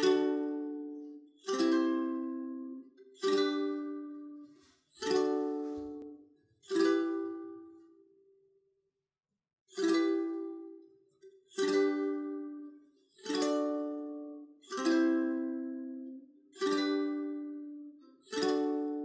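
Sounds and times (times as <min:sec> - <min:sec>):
ukulele chords: 0:00.0 - 0:08.0, 0:09.7 - 0:19.0.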